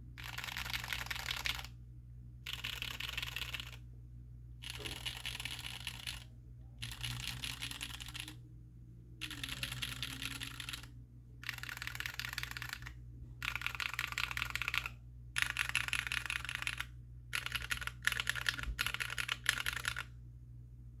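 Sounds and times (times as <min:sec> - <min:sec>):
muted mechanical keyboard typing: 0:00.2 - 0:01.7, 0:02.5 - 0:03.8, 0:04.6 - 0:08.4, 0:09.2 - 0:20.1.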